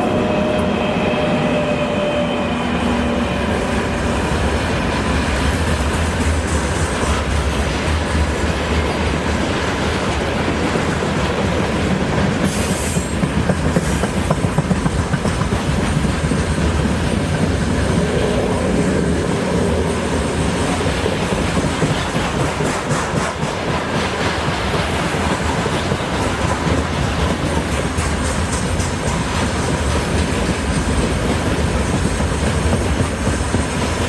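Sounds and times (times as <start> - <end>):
train wheels rumbling on rail: 0.0 - 34.0
wheels clacking over rail joints: 3.6 - 34.0.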